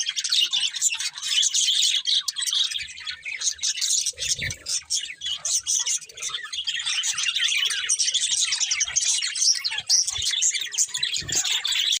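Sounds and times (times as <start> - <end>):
budgerigars chattering and warbling: 0.0 - 12.0.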